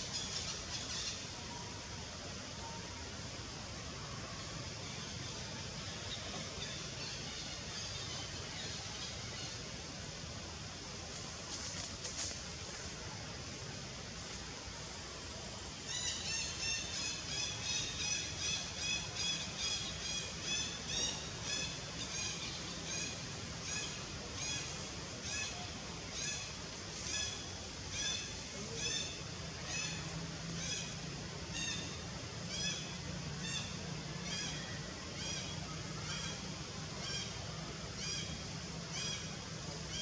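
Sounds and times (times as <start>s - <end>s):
background hiss: 0.0s - 40.0s.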